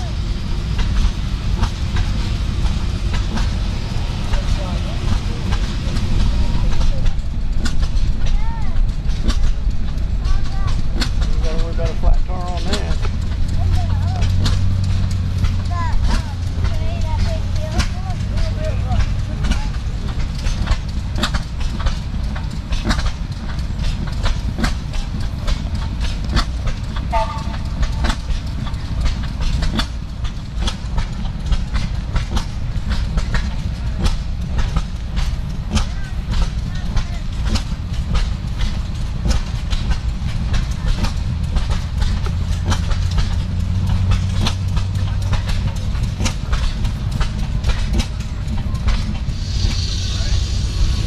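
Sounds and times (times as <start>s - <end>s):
machinery rumbling: 0.0s - 51.0s
old engine idling: 0.0s - 51.0s
sharp clacks: 0.0s - 51.0s
steady low hum: 0.0s - 51.0s.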